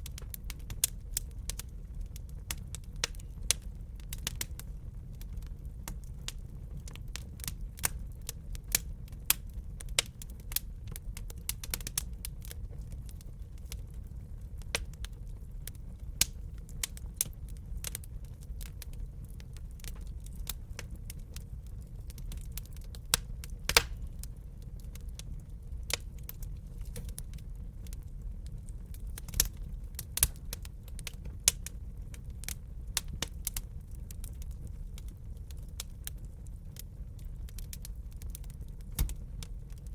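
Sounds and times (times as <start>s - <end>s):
low fire rumble: 0.0s - 39.9s
wood fire crackling: 0.0s - 39.9s.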